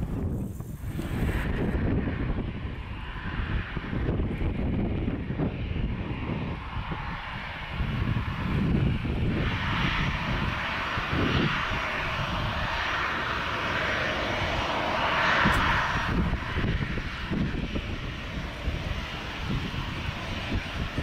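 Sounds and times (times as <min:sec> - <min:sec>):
jet engine hiss and rumble: 0:00.0 - 0:21.0.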